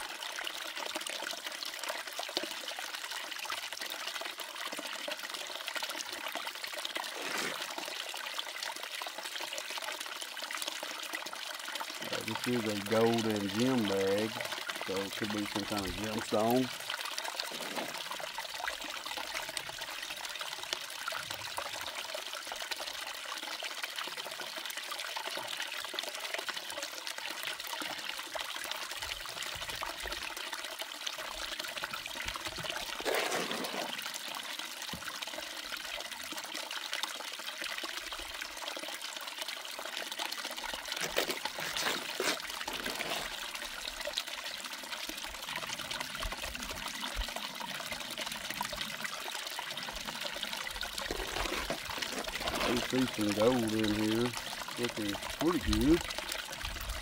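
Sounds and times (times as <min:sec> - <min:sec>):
water running down sluice box: 0:00.0 - 0:57.0.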